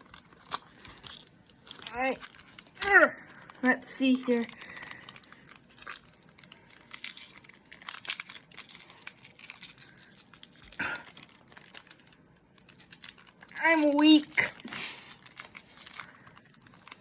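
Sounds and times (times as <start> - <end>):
card wrapper crinkling and tearing: 0.0 - 17.0.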